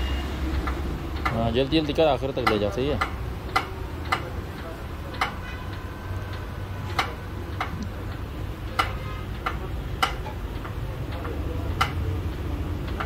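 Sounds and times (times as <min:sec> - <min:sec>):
sharp metallic pump clicks: 0:00.5 - 0:06.4, 0:07.0 - 0:13.0.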